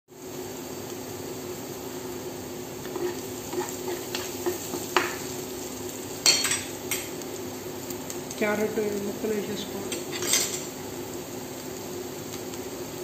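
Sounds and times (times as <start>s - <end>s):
onions sizzling in a frying pan: 0.1s - 13.0s.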